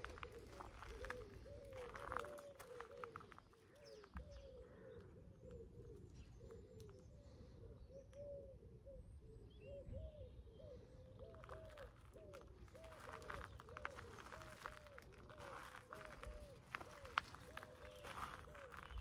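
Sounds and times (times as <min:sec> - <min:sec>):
pigeons cooing: 0:00.0 - 0:19.0
small birds chirping: 0:00.0 - 0:19.0.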